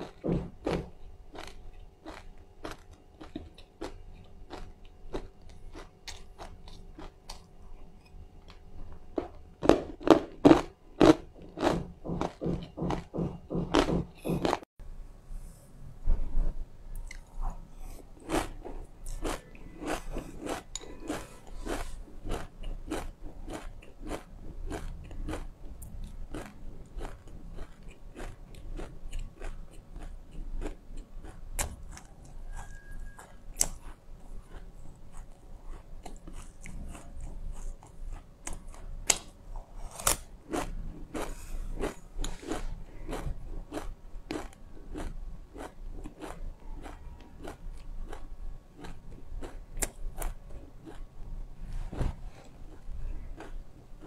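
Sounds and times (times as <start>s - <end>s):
chewing crunchy seeds: 0.0s - 14.6s, 18.2s - 51.2s, 52.3s - 54.0s.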